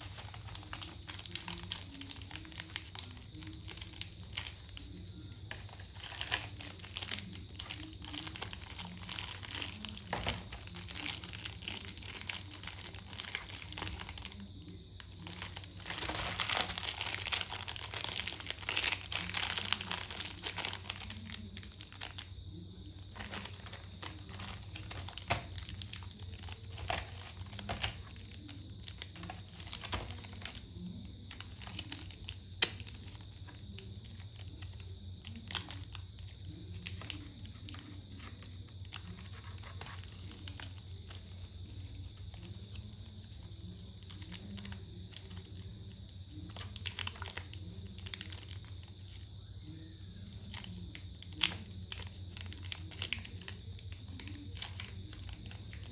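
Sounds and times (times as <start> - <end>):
candy wrappers crinkling: 0.0 - 55.9.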